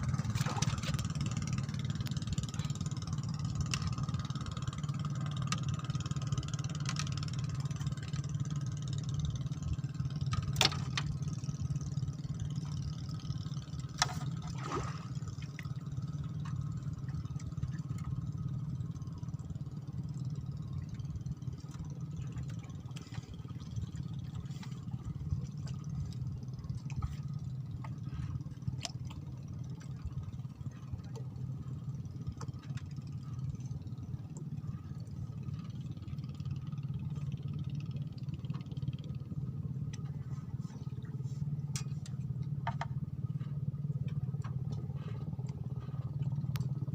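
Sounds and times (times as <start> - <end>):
low engine hum: 0.0 - 46.9.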